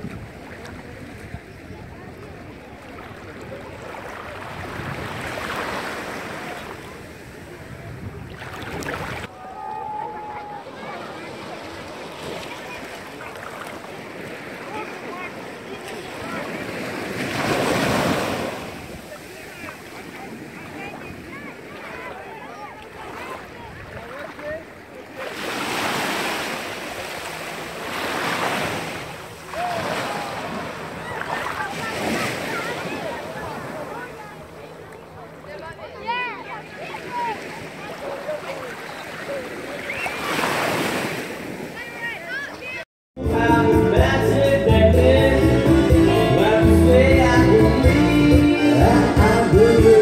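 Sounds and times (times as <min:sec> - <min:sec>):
small waves lapping: 0:00.0 - 0:42.8.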